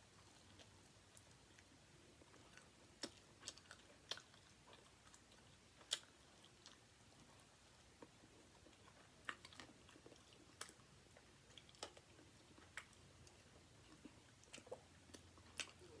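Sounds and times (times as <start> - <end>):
faint chewing of crispy chicken: 0.0 - 16.0.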